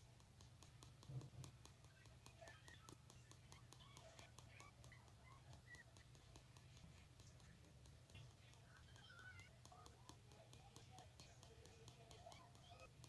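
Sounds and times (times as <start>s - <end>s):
faint low hum: 0.0s - 13.0s
faint television sounds: 0.0s - 13.0s.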